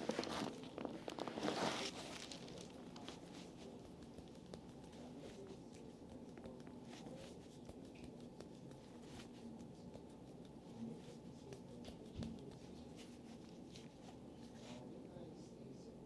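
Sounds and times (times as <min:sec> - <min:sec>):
rustling of hands and fabric: 0:00.0 - 0:15.5
low room hum: 0:00.0 - 0:16.0.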